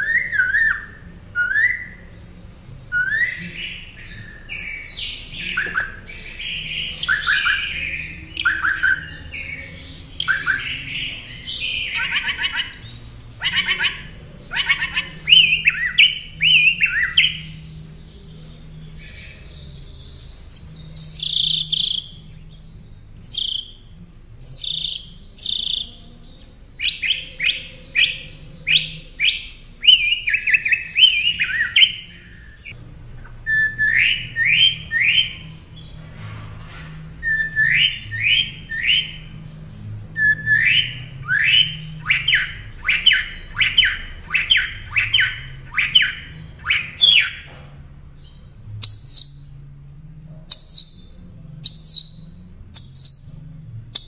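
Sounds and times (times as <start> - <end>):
mockingbird singing: 0.0 - 36.1, 37.1 - 54.0.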